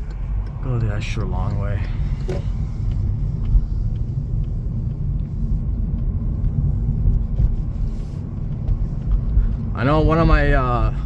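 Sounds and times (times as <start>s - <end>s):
faint ticks: 0.0s - 9.8s
car engine and tyre rumble: 0.0s - 11.0s.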